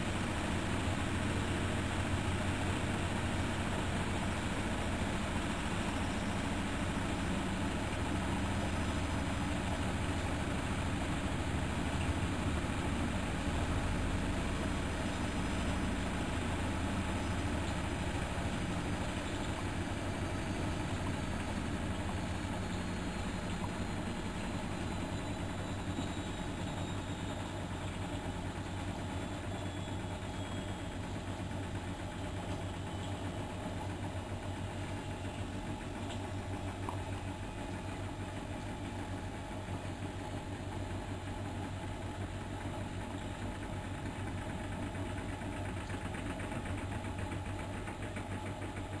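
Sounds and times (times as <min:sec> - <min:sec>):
washing machine running: 0:00.0 - 0:49.0.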